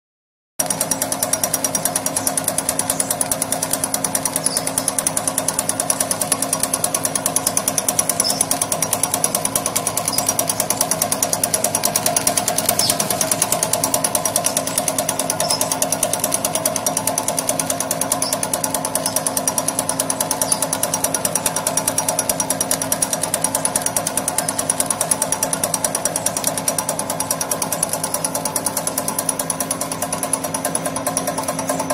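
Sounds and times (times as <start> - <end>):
machine mechanical rattle: 0.6 - 31.9
machine steady hum: 0.6 - 31.9.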